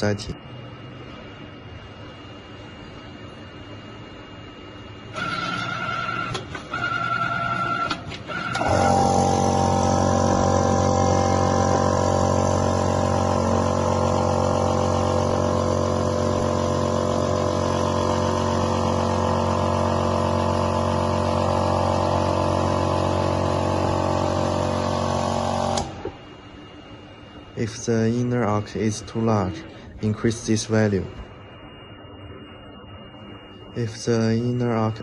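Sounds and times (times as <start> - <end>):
bending machine humming: 0.0 - 35.0.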